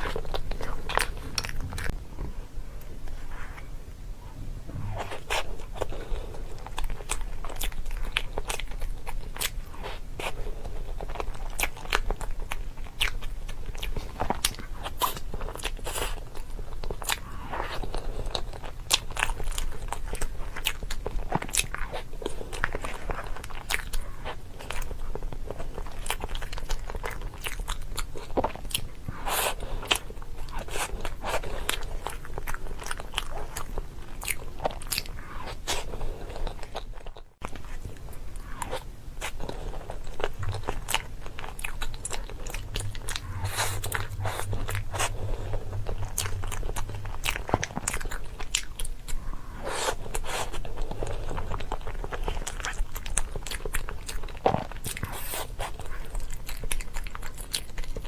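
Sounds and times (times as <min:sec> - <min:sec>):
crunchy chewing: 0:00.0 - 0:03.7, 0:04.8 - 0:58.0.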